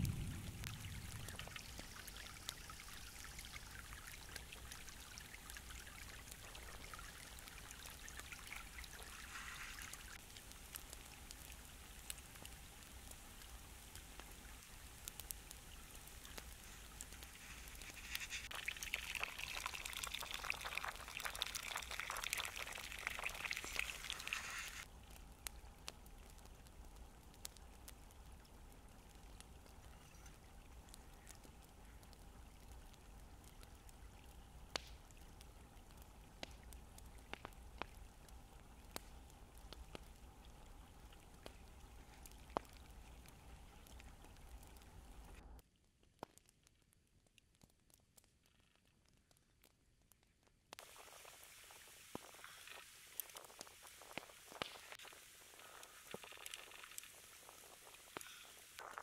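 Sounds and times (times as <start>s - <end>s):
stream trickling over stones: 0.0s - 45.6s, 50.8s - 59.0s
crackly noise: 0.0s - 59.0s.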